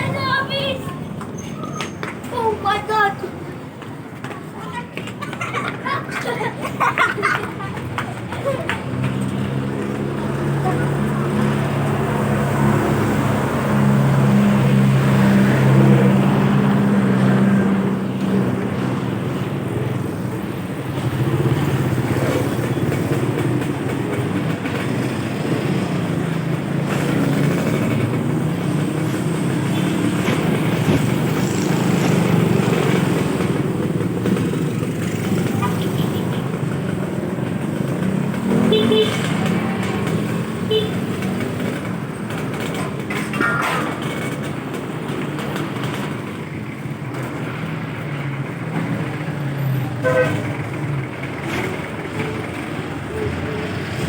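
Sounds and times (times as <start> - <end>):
road noise: 0.0 - 54.0
vehicle engine drone: 7.5 - 54.0.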